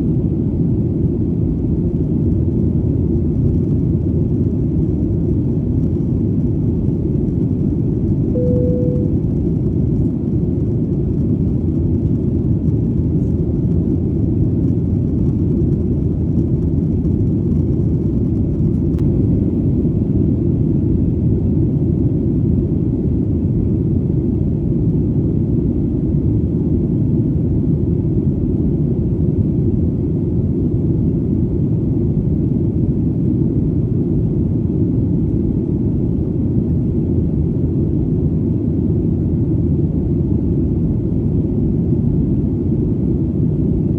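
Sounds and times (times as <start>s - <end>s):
airplane engine drone: 0.0s - 43.9s.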